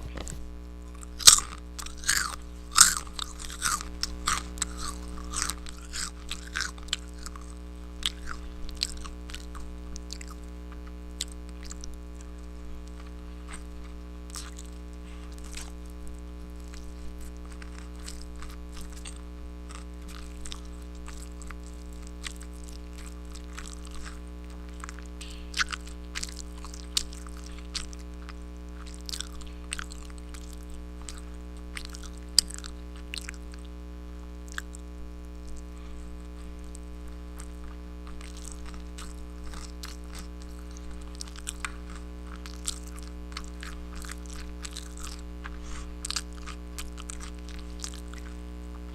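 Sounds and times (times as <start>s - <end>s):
chewing and crunching food: 0.0s - 48.9s
steady low hum: 0.0s - 48.9s.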